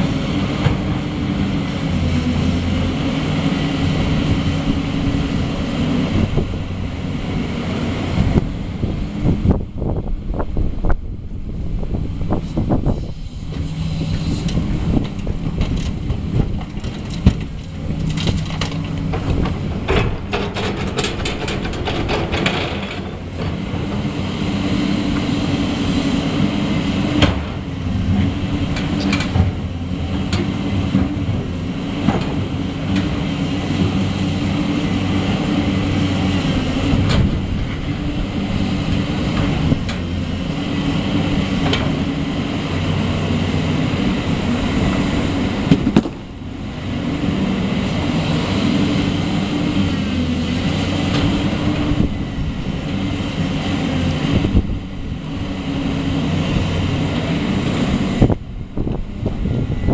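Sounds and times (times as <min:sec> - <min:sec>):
diesel machinery running: 0:00.0 - 0:59.9.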